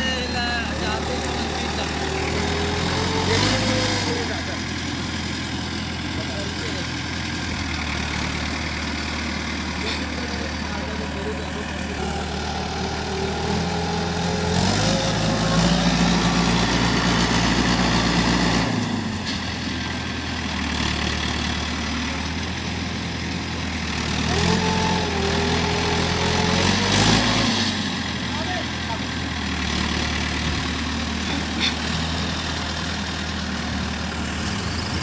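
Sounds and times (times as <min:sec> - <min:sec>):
tractor engines labouring: 0:00.0 - 0:35.0.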